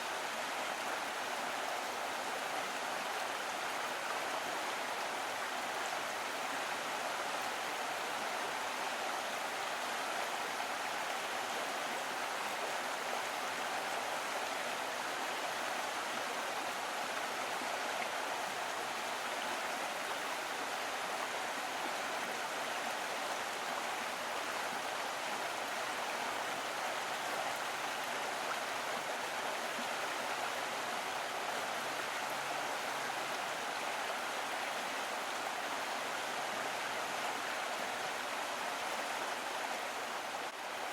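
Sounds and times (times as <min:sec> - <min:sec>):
stream gurgling over rocks: 0:00.0 - 0:40.9.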